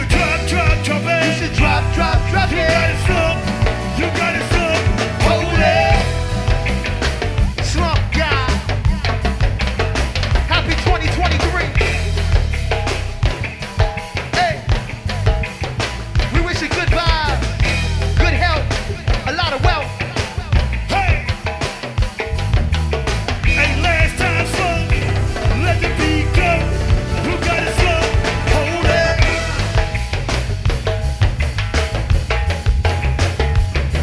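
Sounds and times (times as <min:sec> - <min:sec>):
drum kit beat: 0:00.0 - 0:34.0
heavy bass: 0:00.0 - 0:34.0.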